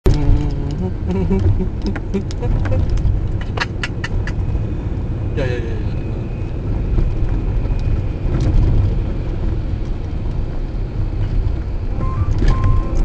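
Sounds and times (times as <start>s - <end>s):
car interior rumble: 0.1s - 13.0s.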